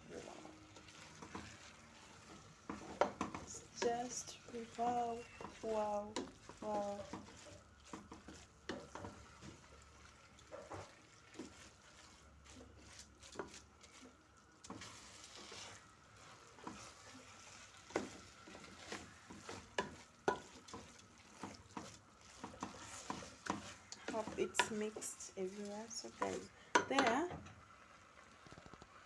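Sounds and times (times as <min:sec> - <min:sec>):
frying sizzle: 0:00.0 - 0:29.0
spoon scraping a pot: 0:00.1 - 0:27.4.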